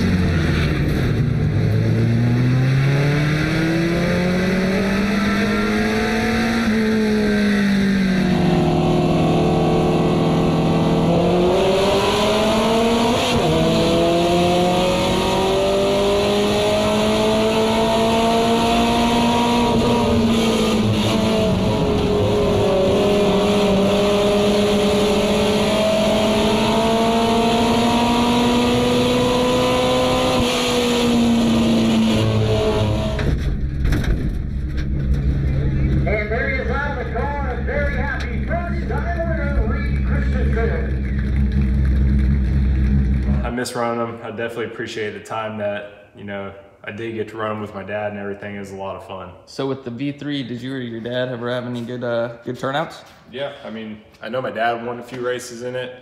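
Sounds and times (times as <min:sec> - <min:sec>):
race car engine: 0:00.0 - 0:45.3.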